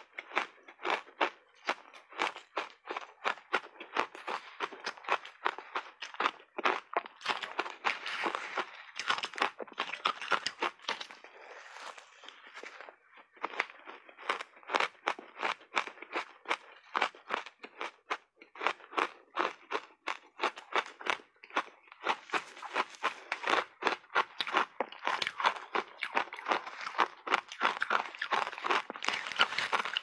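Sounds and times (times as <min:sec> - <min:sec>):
shaved ice crunching when chewed: 0:00.0 - 0:30.0.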